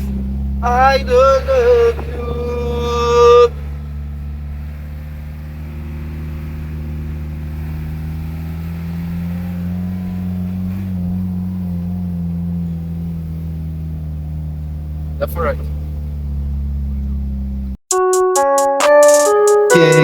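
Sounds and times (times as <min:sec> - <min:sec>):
vehicle engine humming: 0:00.0 - 0:17.8.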